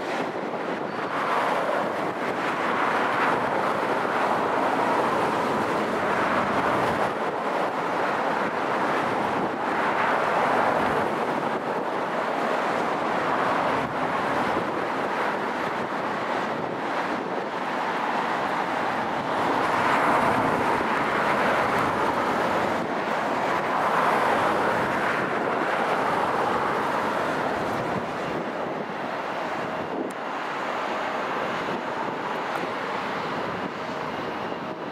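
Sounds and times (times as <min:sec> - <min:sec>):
distant jet engine rushing: 0:00.0 - 0:34.9.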